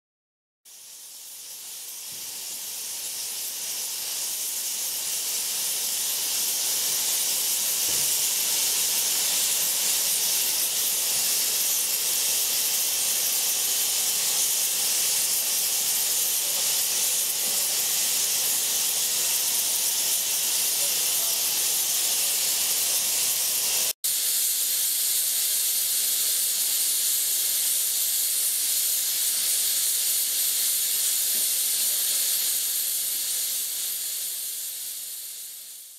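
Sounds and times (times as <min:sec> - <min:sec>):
steam locomotive releasing steam: 0:00.7 - 0:35.9.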